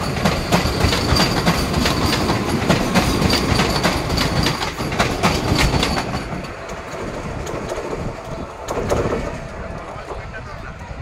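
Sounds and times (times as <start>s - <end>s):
train wheels clicking over rail joints: 0.0s - 10.4s
low train rumble: 0.0s - 11.0s.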